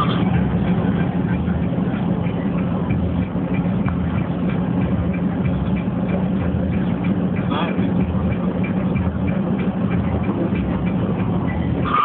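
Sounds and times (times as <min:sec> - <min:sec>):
road noise: 0:00.0 - 0:12.0
vehicle engine drone: 0:00.0 - 0:12.0.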